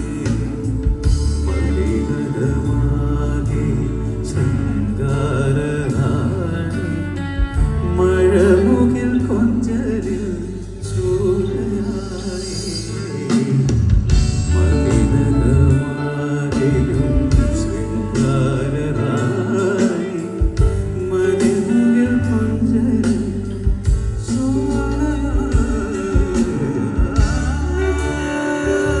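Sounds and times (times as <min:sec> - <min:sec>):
band music through pa system: 0:00.0 - 0:29.0.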